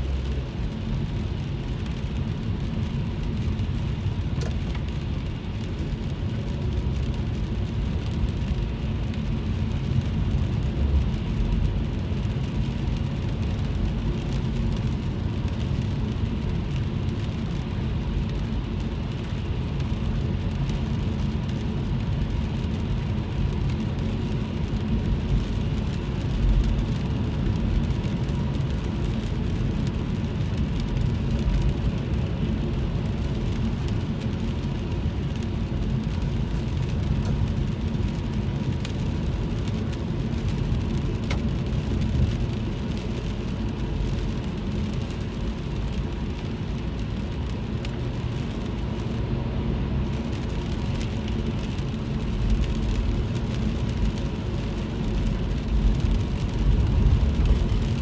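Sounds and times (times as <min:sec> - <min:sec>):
car engine and tyres rumbling: 0:00.0 - 0:58.0
raindrops ticking on car: 0:00.0 - 0:58.0.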